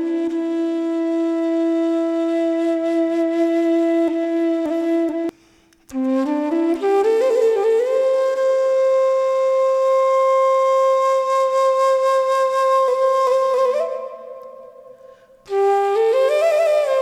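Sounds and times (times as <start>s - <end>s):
solo flute: 0.0s - 17.0s.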